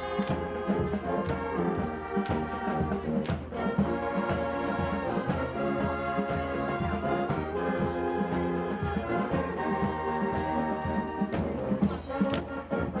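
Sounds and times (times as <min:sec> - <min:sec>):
drum strokes: 0:00.0 - 0:12.6
marching band playing: 0:00.0 - 0:13.0.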